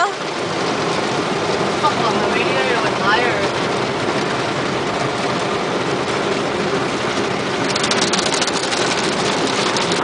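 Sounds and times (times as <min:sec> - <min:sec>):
car wash machinery and water rushing: 0:00.0 - 0:10.0.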